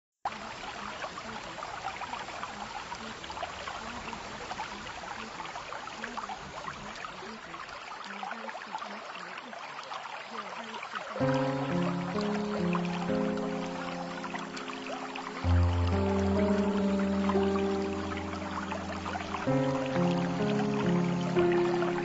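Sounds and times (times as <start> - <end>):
water trickling: 0.3 - 22.0.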